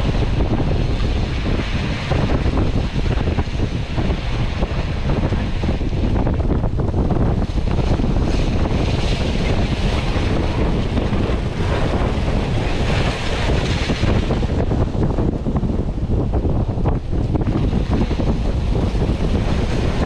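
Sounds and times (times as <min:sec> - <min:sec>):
water and ice rushing past: 0:00.0 - 0:20.0
wind buffeting microphone: 0:00.0 - 0:20.0.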